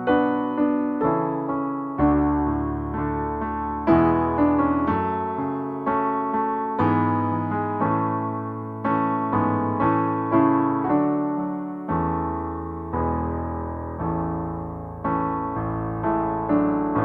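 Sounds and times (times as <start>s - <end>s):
electric piano chords: 0.0s - 17.0s.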